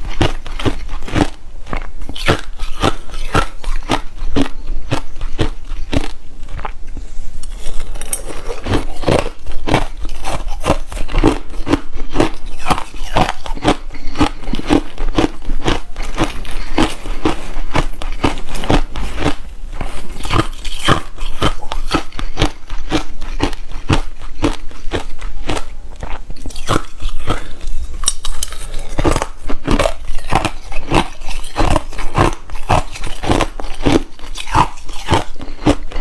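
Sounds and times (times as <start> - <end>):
person chewing crunchy ice: 0.0 - 36.0.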